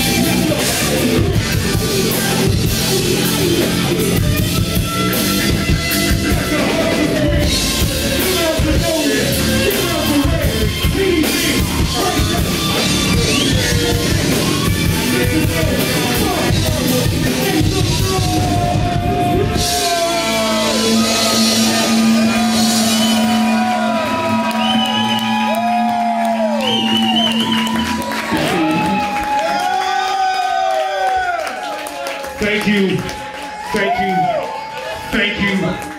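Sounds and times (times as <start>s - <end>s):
drum kit: 0.0s - 29.5s
live rock band playing: 0.0s - 29.5s
electric guitar: 0.0s - 29.8s.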